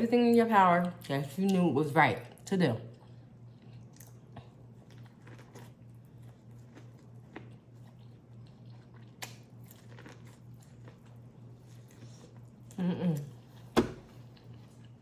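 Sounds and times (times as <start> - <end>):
quiet chewing: 2.9 - 15.0.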